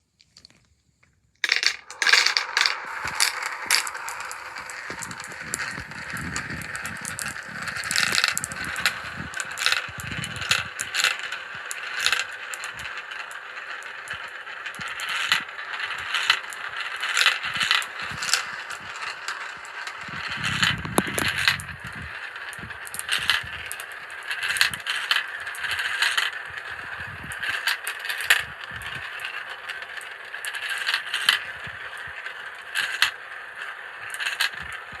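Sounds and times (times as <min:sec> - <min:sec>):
marbles clicking together: 0:01.4 - 0:35.0
marbles rolling rattle: 0:01.4 - 0:35.0.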